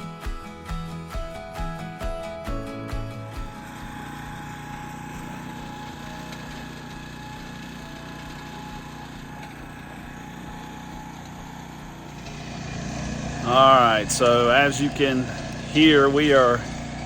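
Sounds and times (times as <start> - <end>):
lawn aerator engine running: 1.4 - 17.0.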